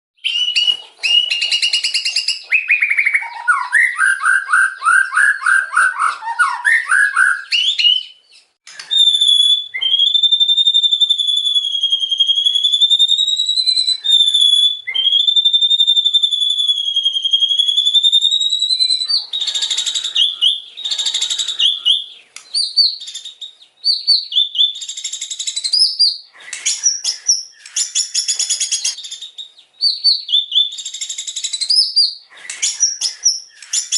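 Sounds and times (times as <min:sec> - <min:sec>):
bird singing: 0:00.2 - 0:33.9.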